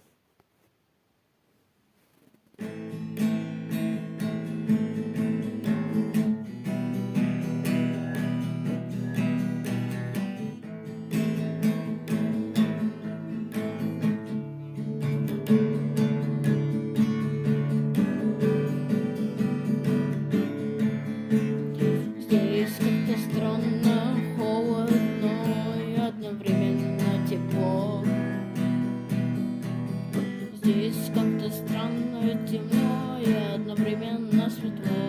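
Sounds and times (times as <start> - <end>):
lead guitar melody: 2.6 - 35.0
strummed guitar chords: 2.6 - 35.0.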